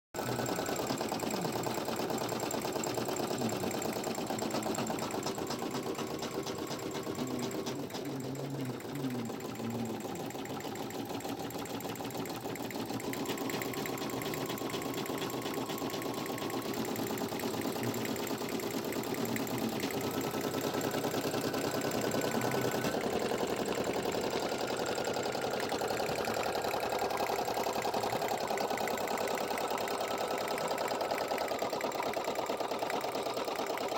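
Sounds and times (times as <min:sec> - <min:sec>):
embroidery machine stitching: 0:00.2 - 0:33.9.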